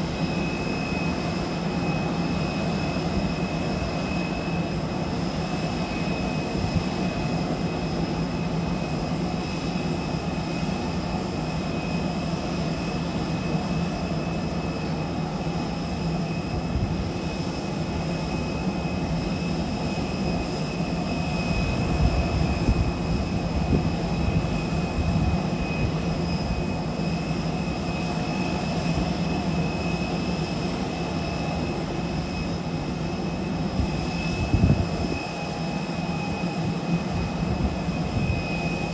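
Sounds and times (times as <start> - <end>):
airliner whine and hum: 0.0 - 38.9.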